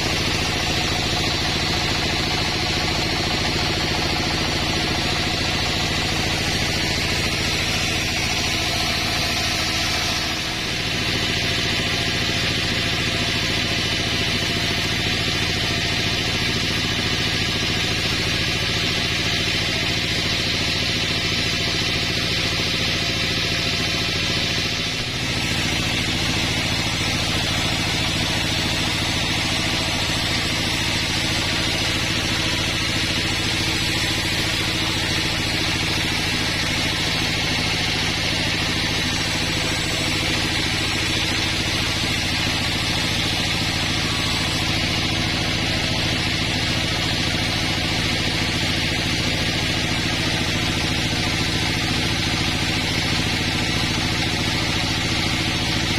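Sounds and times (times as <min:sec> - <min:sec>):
engine hum: 0:00.0 - 0:55.9
saw whining: 0:00.0 - 0:55.9.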